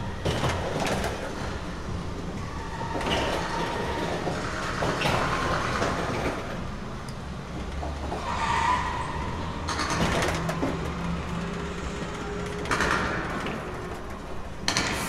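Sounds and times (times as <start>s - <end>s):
car engines: 0.0s - 15.0s.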